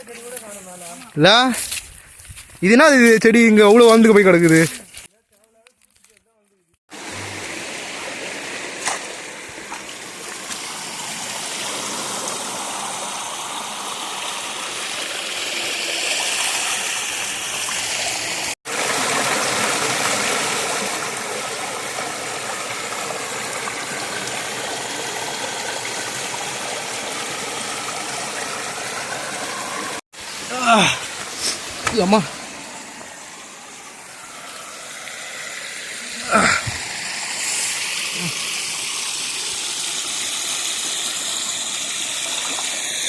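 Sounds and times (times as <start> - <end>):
stream water rushing: 6.9 - 43.0.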